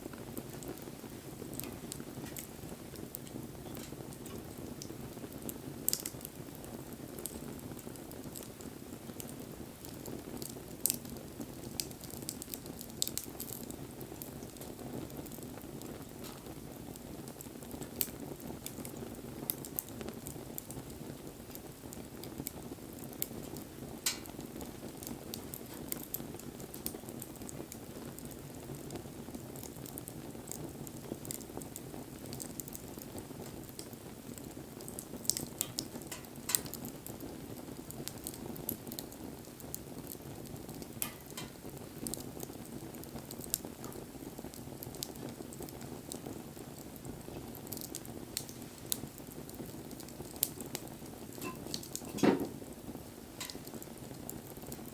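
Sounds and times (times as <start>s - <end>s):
fire crackling and popping: 0.0s - 54.9s.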